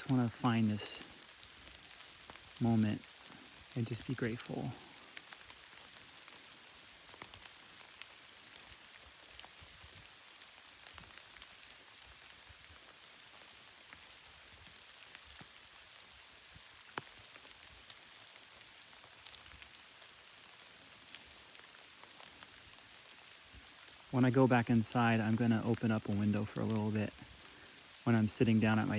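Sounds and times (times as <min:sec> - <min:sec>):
light rain hissing: 0:00.0 - 0:28.9
raindrops ticking: 0:00.0 - 0:28.9.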